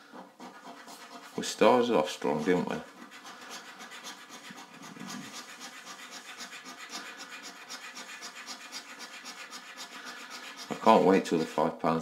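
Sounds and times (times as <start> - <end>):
coin scratching a scratch card: 0.4 - 11.6.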